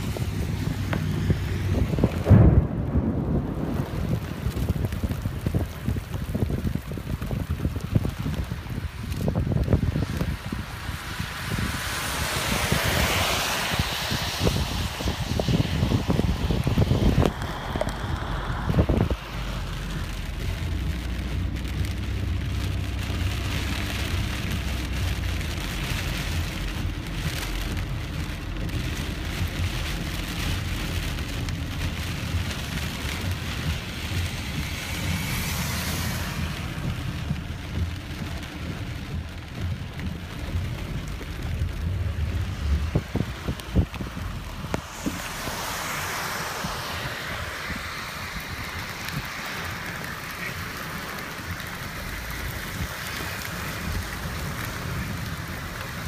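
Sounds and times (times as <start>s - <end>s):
moving car rumble: 0.0s - 56.0s
rain pattering on car windshield: 0.0s - 56.0s.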